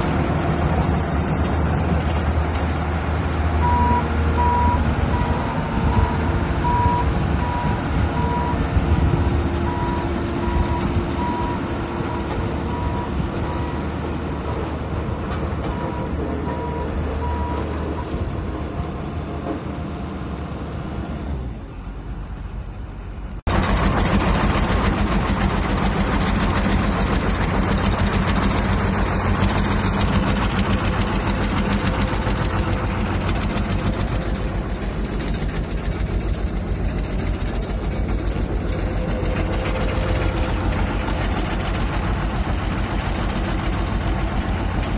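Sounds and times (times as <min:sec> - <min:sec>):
road roller diesel engine: 0:00.0 - 0:44.9.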